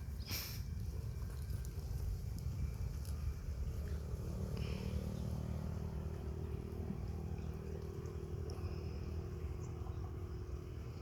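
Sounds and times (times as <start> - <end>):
motor running low rumble: 0.0 - 11.0.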